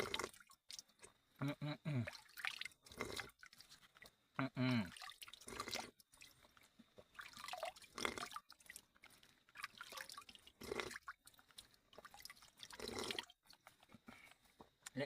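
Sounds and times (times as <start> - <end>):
water dripping and splashing: 0.0 - 1.2, 2.0 - 14.0.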